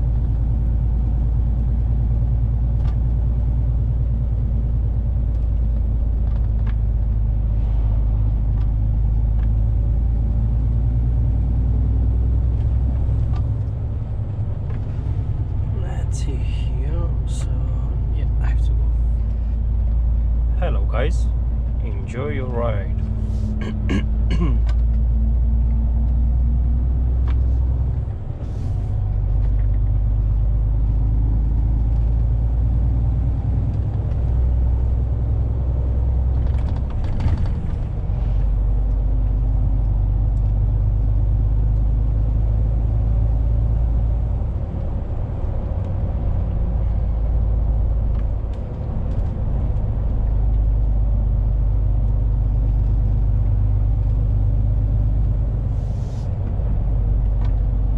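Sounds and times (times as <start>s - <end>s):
road rumble: 0.0s - 57.9s
truck diesel engine: 0.0s - 57.9s.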